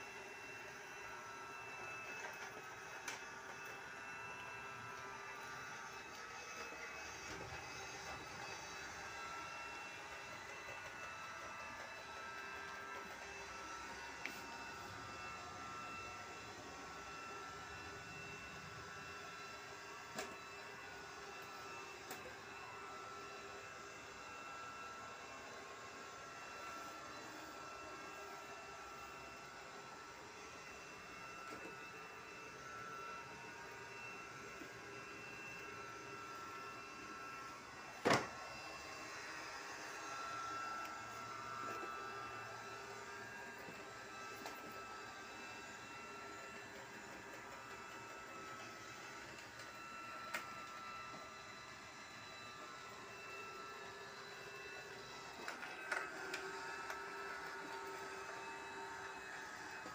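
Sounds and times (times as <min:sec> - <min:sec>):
robot vacuum motor whirring: 0:00.0 - 0:59.9.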